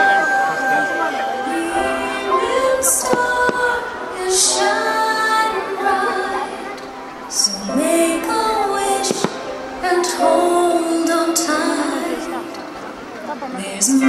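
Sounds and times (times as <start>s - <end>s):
orchestral music: 0.0s - 13.6s
woman singing: 0.0s - 14.0s.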